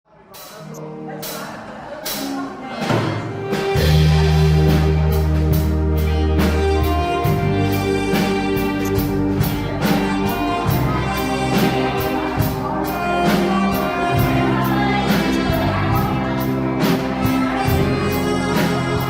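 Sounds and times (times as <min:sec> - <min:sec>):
live band playing: 0:00.3 - 0:19.0.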